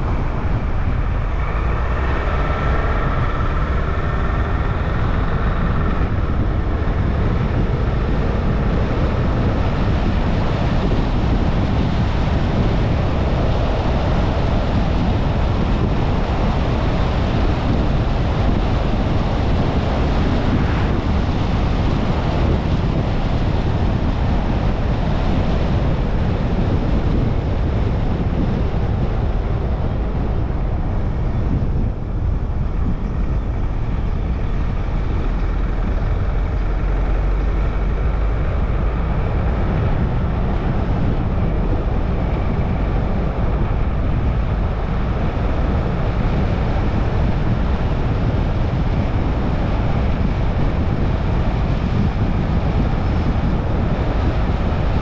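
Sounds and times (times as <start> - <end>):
car road and wind noise: 0.0 - 55.0
faint whine: 0.0 - 55.0.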